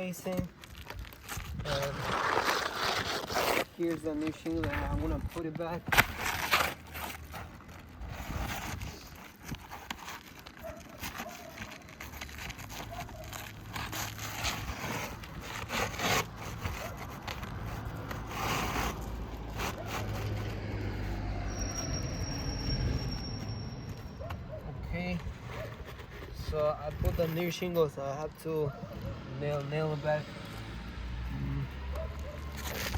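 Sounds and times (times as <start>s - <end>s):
roof shingle scraping and rustling: 0.0s - 21.2s, 23.8s - 30.6s, 32.1s - 32.9s.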